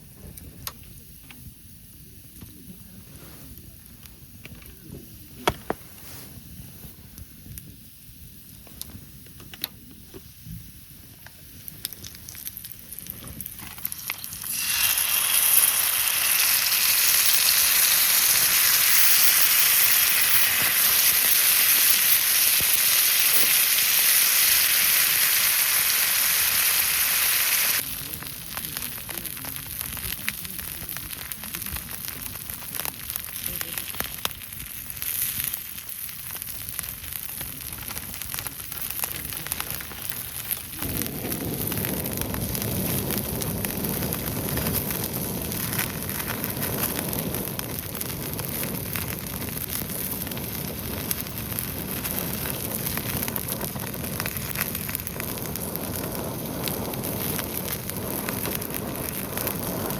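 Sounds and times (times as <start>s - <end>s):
campfire crackling faintly: 0.0s - 59.9s
loud steady sizzling hiss: 0.0s - 59.9s.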